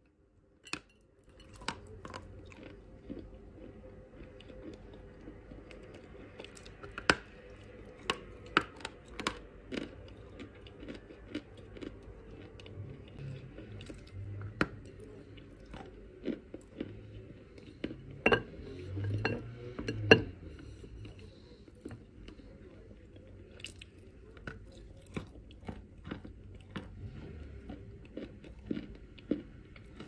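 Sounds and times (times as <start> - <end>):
soft chewing: 0.0 - 30.0.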